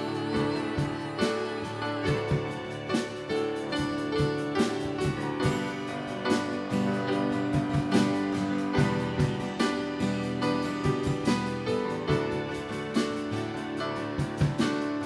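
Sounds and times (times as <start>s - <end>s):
piano: 0.0s - 15.0s
worship band playing: 0.0s - 15.0s.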